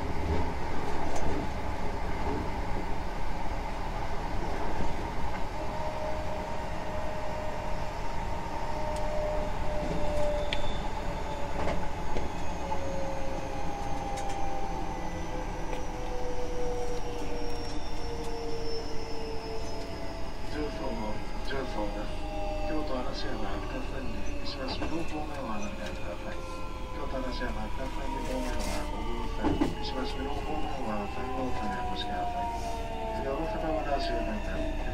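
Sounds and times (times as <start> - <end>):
train wheels rumbling on rail: 0.0 - 21.5, 22.2 - 34.9
train motor whine: 5.3 - 34.9.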